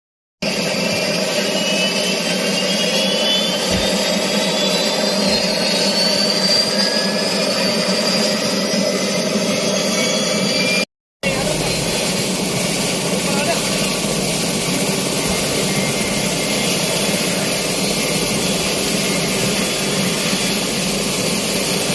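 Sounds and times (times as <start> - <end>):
helicopter engine and rotor: 0.4 - 21.9
high turbine whine: 0.4 - 21.9.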